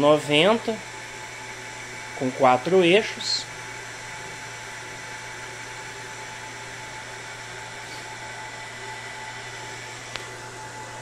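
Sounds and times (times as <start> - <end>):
fan whirring: 0.0 - 11.0
low electrical hum: 0.0 - 11.0.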